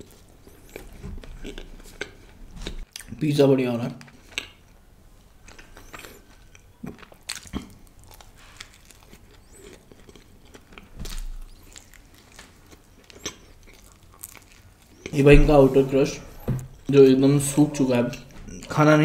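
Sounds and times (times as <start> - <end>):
biting and chewing pizza: 0.0 - 3.2, 4.0 - 19.0.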